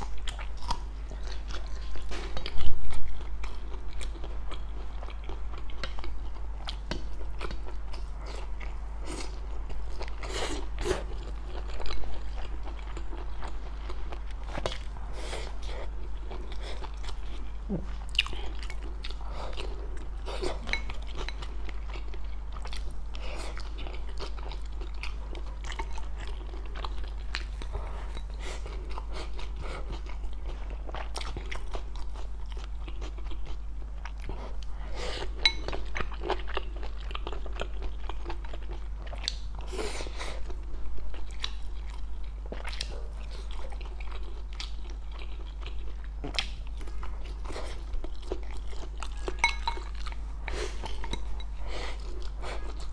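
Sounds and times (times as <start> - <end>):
chewing crunchy food: 0.0 - 52.9.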